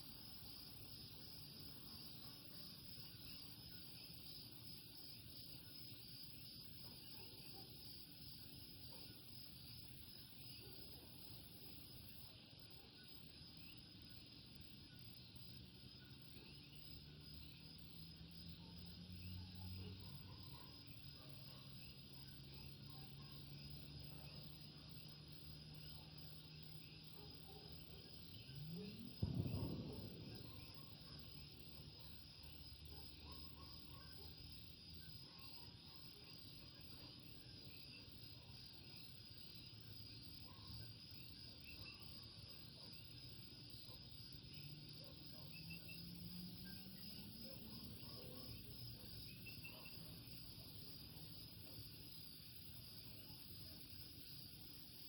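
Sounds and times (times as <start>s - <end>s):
insect hum: 0.0s - 55.0s.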